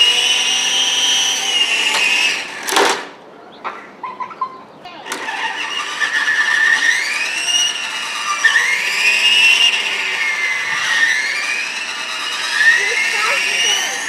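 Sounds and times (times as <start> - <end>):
rc helicopter motors whining: 0.0 - 2.8, 5.0 - 14.0.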